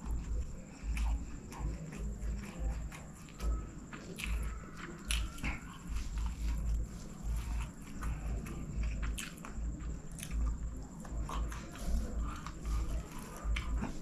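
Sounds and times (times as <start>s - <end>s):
person chewing food: 0.0s - 14.0s
rice squishing by hand: 0.0s - 14.0s.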